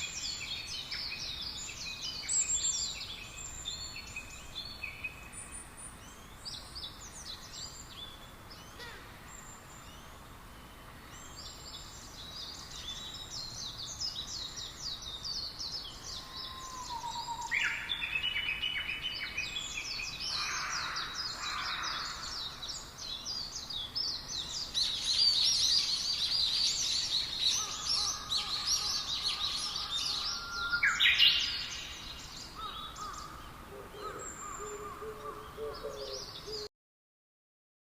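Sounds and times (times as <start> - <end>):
small birds chirping: 0.0 - 36.7.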